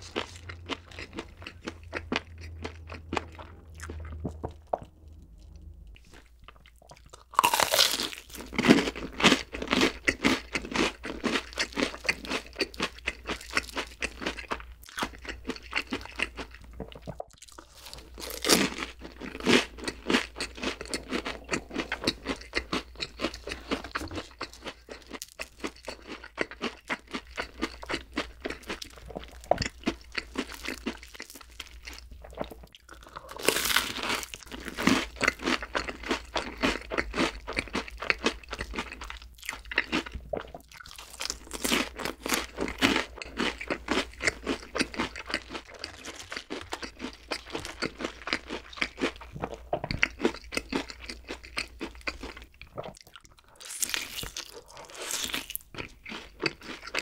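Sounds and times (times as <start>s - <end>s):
crunching and chewing fried food: 0.0s - 57.0s.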